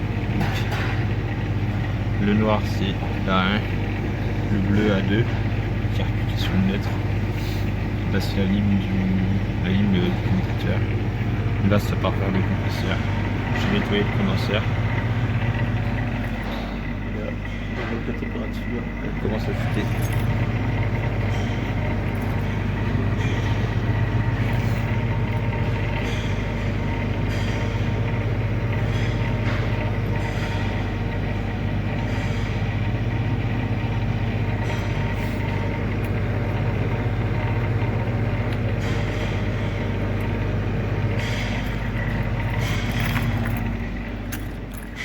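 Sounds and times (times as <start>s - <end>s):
refrigeration unit humming: 0.0s - 45.0s.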